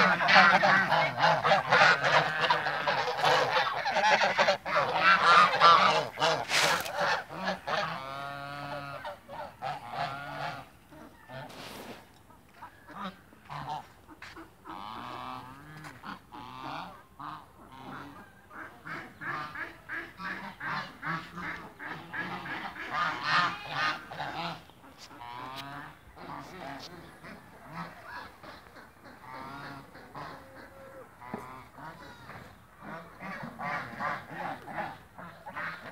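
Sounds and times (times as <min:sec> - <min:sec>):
farmyard fowl calling: 0:00.0 - 0:35.9.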